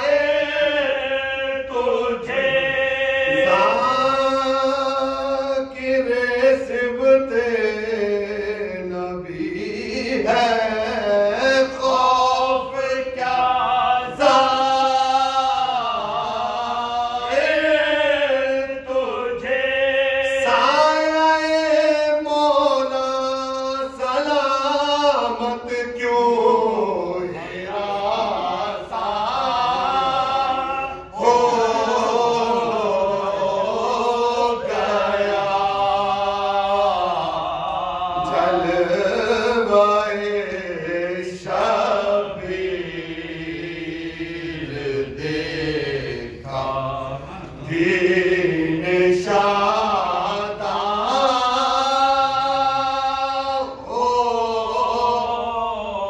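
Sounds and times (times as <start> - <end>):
men chanting unaccompanied: 0.0 - 56.0.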